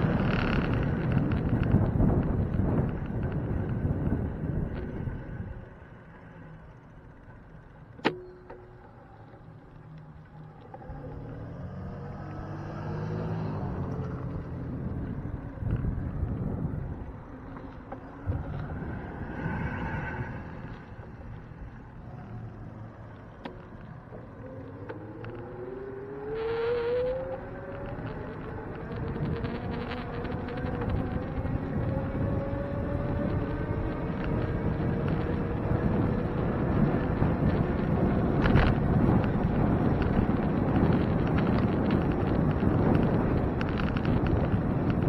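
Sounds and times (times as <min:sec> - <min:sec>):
car engine and tyres: 0:00.0 - 0:45.0
road and wind noise: 0:00.0 - 0:45.0.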